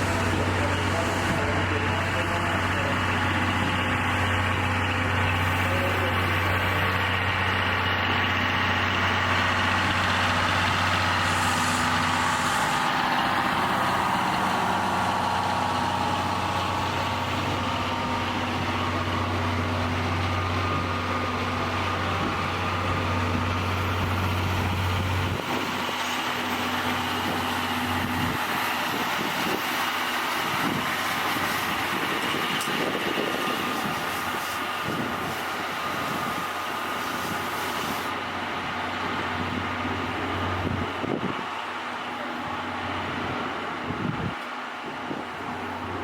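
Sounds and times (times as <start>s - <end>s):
train machinery low drone: 0.0s - 46.0s.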